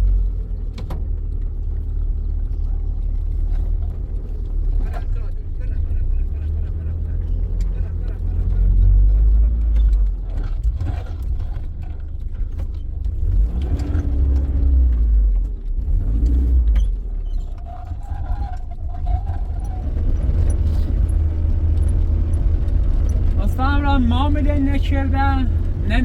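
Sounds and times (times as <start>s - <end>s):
vehicle rumbling: 0.0s - 26.0s.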